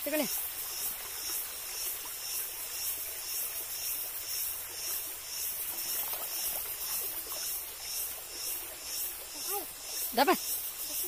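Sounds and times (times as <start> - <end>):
flowing stream: 0.0 - 11.0
insects chirping: 0.0 - 11.0.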